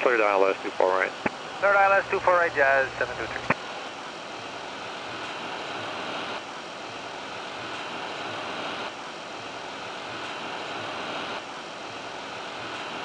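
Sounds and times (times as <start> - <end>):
airflow rushing around cockpit: 0.0 - 13.0.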